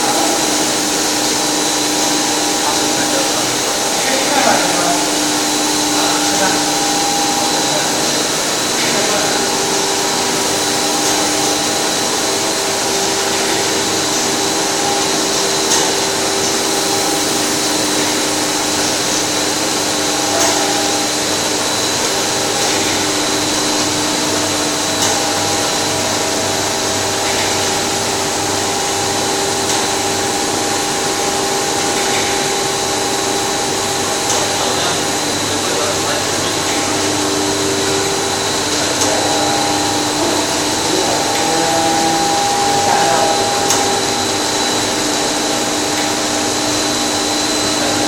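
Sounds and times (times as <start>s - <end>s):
machine motors whirring: 0.0s - 48.0s
steady machine tones: 0.0s - 48.0s.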